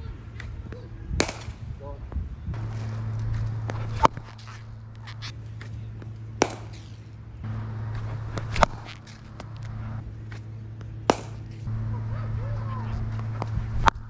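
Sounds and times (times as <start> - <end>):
steady low hum: 0.0 - 14.0
cricket bat striking ball: 0.4 - 1.8, 2.5 - 12.1, 13.0 - 14.0.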